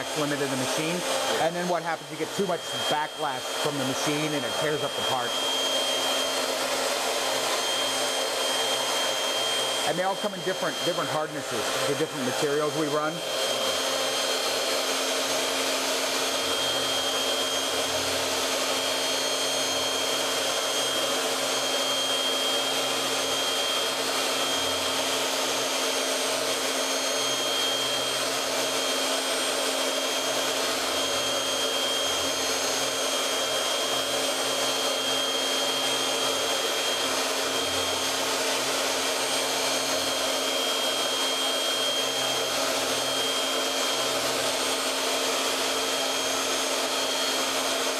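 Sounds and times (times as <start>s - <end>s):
router spindle high whine: 0.0s - 47.9s
steady hiss of cutting: 0.0s - 47.9s.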